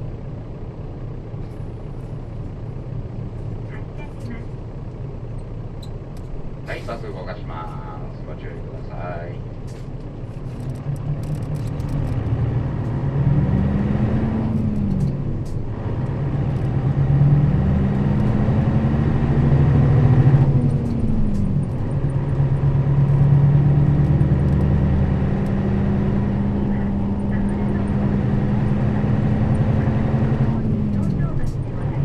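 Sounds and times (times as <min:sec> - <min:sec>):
bus diesel engine accelerating: 0:00.0 - 0:32.0.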